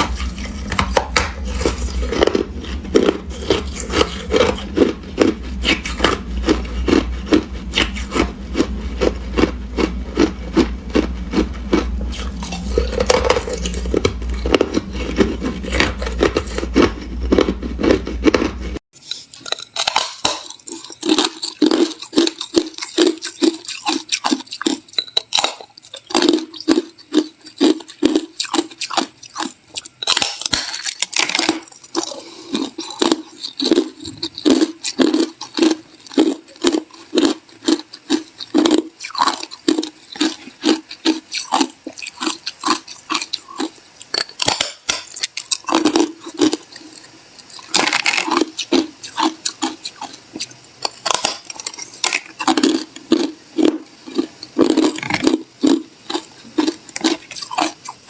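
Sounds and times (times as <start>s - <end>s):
ice being chewed: 0.0s - 58.0s
low background hum: 0.0s - 58.0s.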